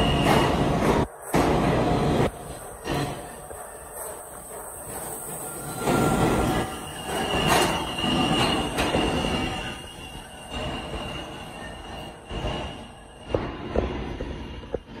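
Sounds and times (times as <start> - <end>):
subway train wheels squealing: 0.0 - 15.0.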